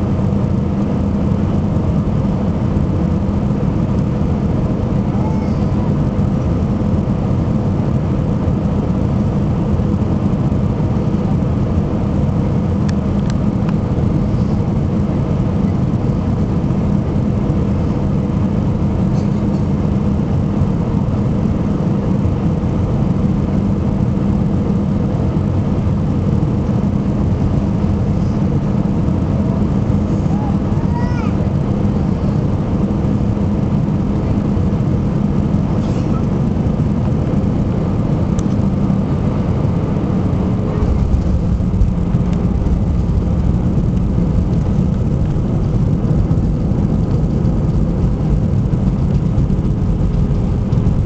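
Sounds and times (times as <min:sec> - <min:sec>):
airplane engine and airflow rumble: 0:00.0 - 0:51.0
low steady hum: 0:00.0 - 0:51.0.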